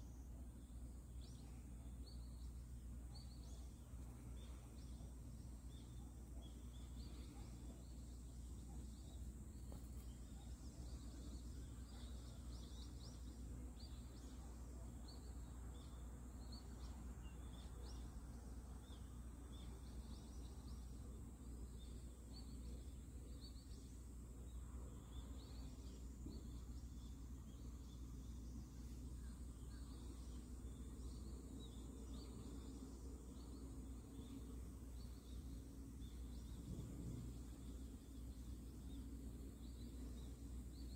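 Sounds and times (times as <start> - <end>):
small birds chirping: 0.0 - 40.9
steady low hum: 0.0 - 40.9.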